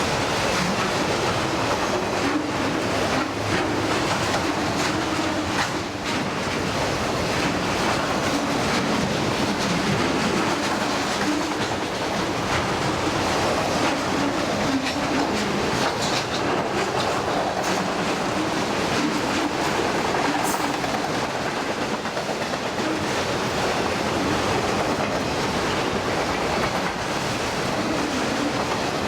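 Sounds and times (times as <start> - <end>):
clickety-clack over rail joints: 0.0 - 29.0
train wheels rumbling on rail: 0.0 - 29.0.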